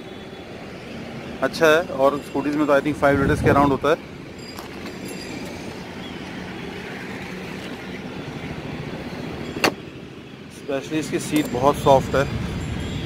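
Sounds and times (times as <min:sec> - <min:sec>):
vehicle hum: 0:00.0 - 0:13.0.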